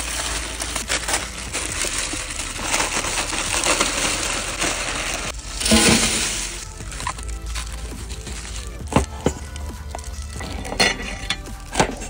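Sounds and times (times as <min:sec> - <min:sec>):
dry noodles rattling into pot: 0:00.0 - 0:12.0
plastic packets tearing: 0:00.0 - 0:12.0
plastic wrappers crinkling: 0:00.0 - 0:12.0.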